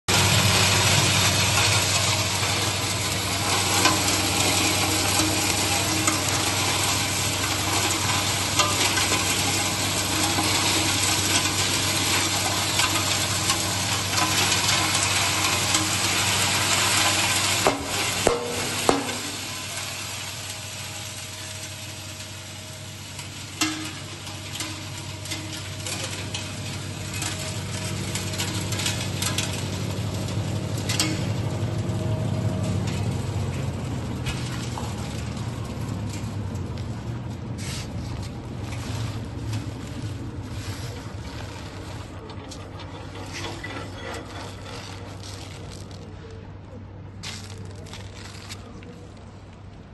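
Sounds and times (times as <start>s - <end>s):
grinding machine hum: 0.0s - 46.3s
crackling hiss of crushing: 0.1s - 49.9s.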